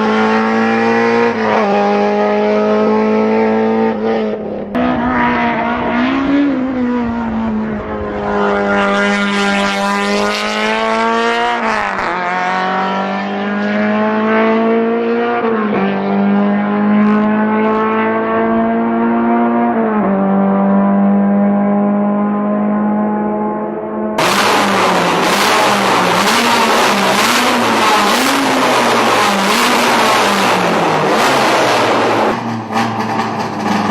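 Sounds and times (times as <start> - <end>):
racing car engine at high revs: 0.0 - 33.9.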